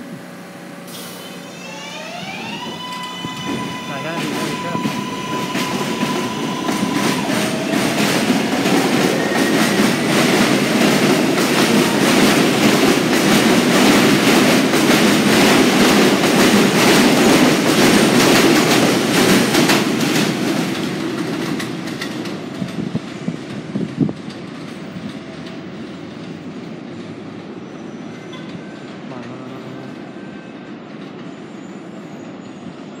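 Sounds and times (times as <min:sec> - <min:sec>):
subway train wheels clattering: 0:00.0 - 0:33.0.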